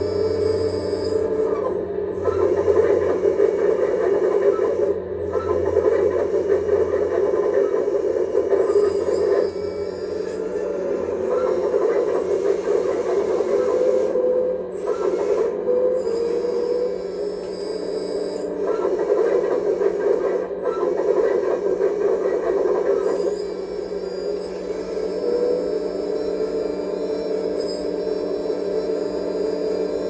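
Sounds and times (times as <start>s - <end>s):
short rising hydraulic whines: 0.0s - 7.0s, 7.6s - 30.0s
hydraulic pump whine and hum: 0.0s - 30.0s.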